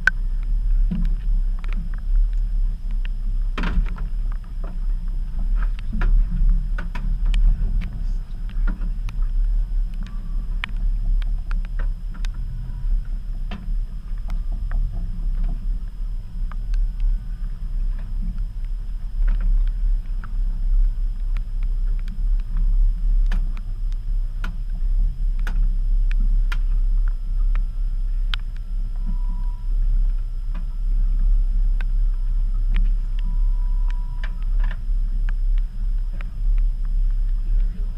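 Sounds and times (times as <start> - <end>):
boat low rumble: 0.0 - 37.9
knocks and clicks of gear: 0.0 - 37.9.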